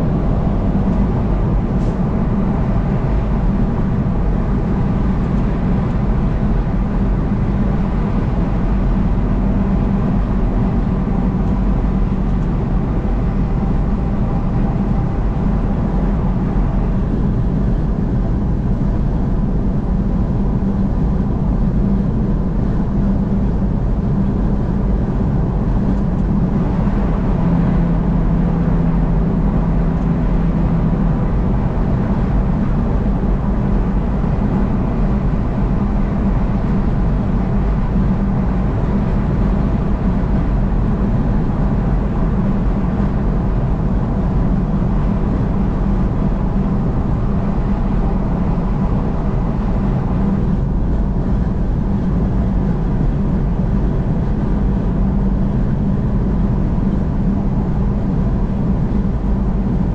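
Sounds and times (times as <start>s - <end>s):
low hum: 0.0s - 59.9s
vehicle road and engine noise: 0.0s - 59.9s.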